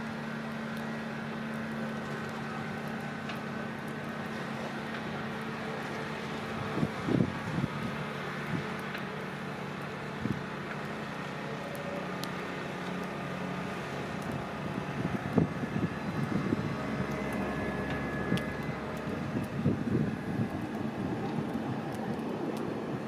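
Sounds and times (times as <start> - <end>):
electric train hum and whine: 0.0 - 23.0
wheels rumbling on rails: 0.0 - 23.0.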